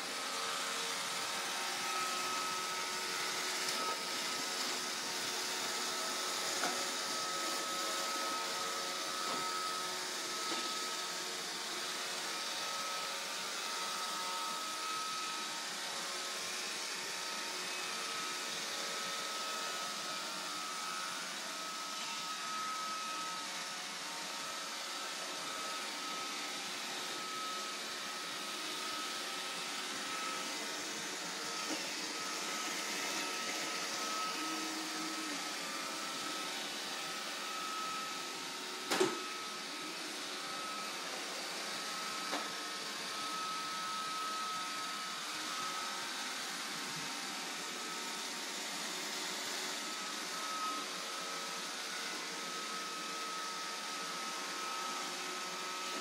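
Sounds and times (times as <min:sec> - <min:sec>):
robot vacuum whirring: 0:00.0 - 0:56.0.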